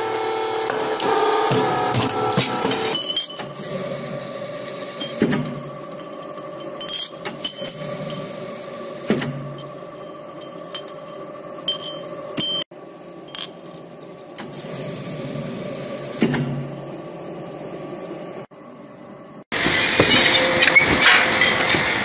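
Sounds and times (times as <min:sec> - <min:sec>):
thread-rolling machine humming: 0:00.0 - 0:22.0.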